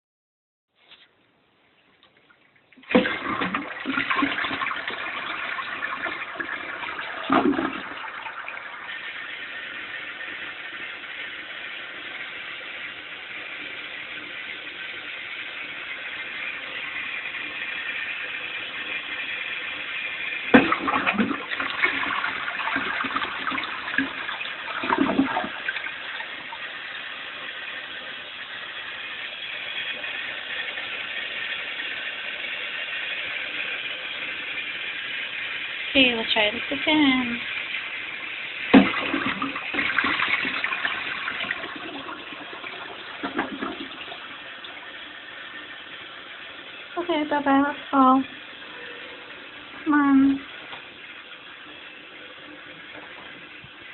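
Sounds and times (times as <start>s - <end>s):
water running as tank refills: 1.8s - 53.9s
toilet flushing: 2.7s - 53.9s.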